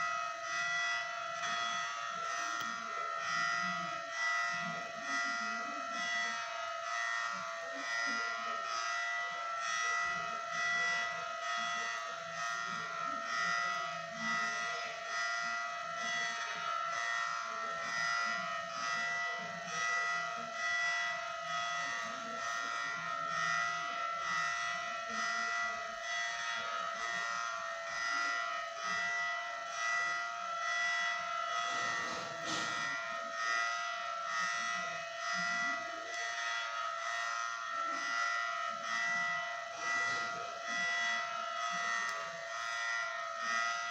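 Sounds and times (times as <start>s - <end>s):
warning siren hi-lo signal: 0.0s - 43.9s.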